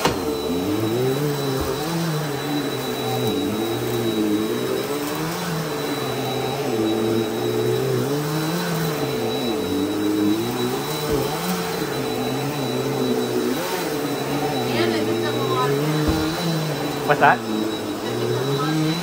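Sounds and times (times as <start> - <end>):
upright vacuum running over carpet: 0.0 - 19.0.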